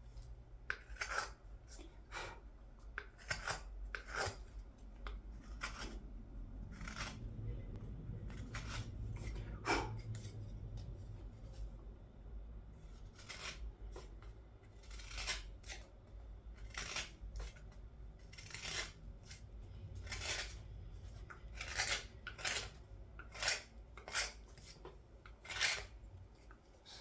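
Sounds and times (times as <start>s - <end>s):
carving knife scraping wood: 0.2s - 7.4s, 8.2s - 11.7s, 12.7s - 26.5s.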